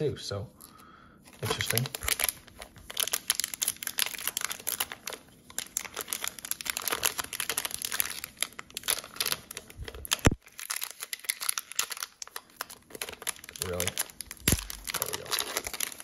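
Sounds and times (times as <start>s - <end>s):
plastic wrapper crinkling: 1.3s - 16.0s
wrapper snapping: 1.3s - 16.0s.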